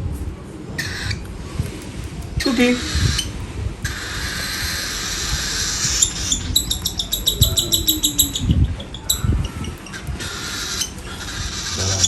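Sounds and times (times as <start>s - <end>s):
baby bird rasping hiss: 0.2s - 12.0s
baby bird chirping rapidly: 0.8s - 12.0s.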